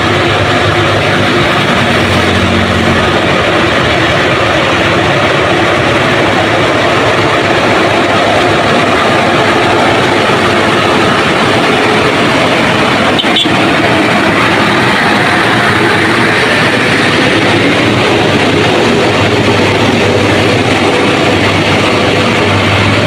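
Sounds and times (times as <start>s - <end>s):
heavy road vehicle running: 0.0s - 23.0s.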